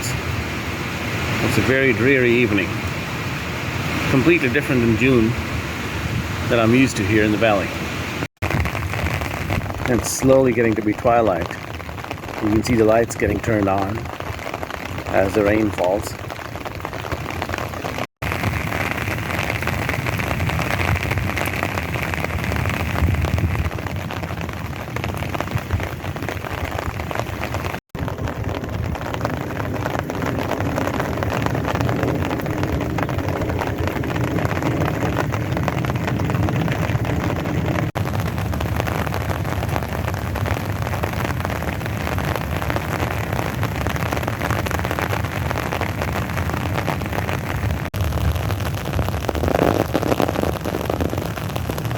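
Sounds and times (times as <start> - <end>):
heavy rain on hard ground: 0.0 - 51.9.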